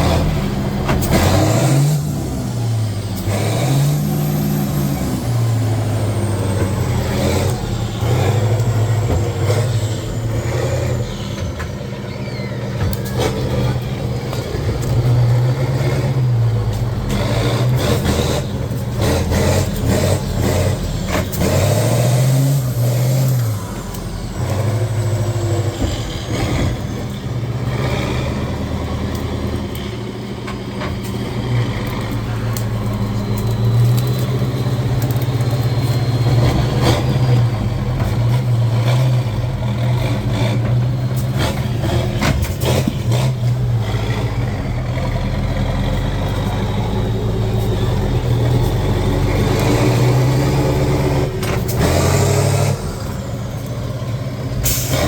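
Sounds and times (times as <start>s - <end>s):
truck engine revving under load: 0.0s - 55.0s.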